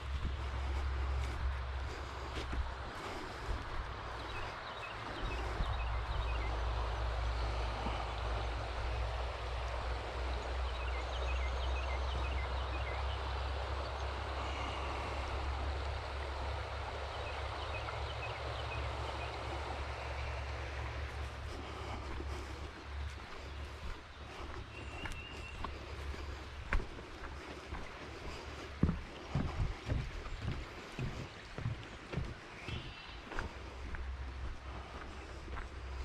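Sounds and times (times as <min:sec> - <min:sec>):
flowing stream water: 0:00.0 - 0:36.0.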